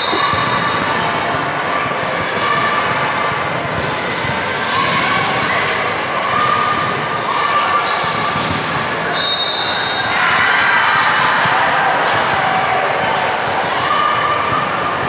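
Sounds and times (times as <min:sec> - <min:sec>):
chatter: 0:00.0 - 0:15.0.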